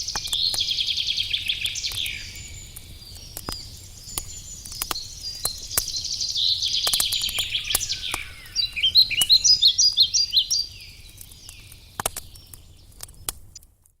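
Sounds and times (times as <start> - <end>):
songbird trilling and chirping: 0.0 - 12.7
wood fire crackling: 0.0 - 14.0.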